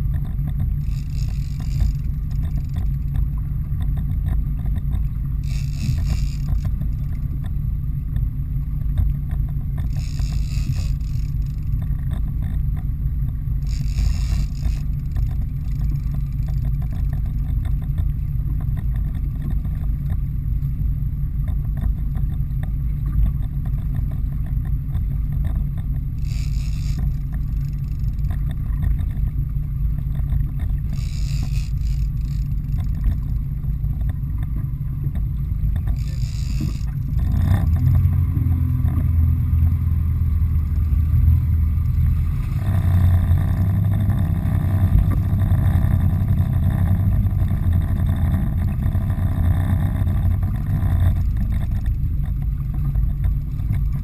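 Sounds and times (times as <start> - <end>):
boat engine rumbling: 0.0 - 54.0.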